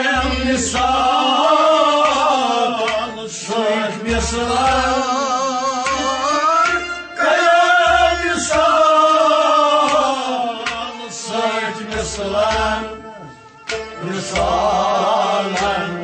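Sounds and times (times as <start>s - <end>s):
man singing ornamented melody: 0.0s - 16.0s.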